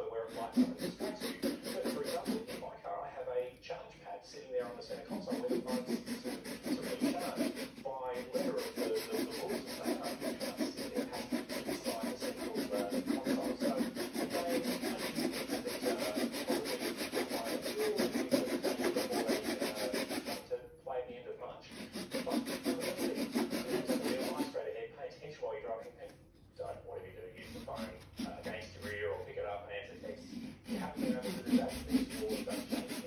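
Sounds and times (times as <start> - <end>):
blade scraping hard plastic: 0.0 - 2.9, 4.5 - 20.5, 21.7 - 24.6, 26.6 - 33.0.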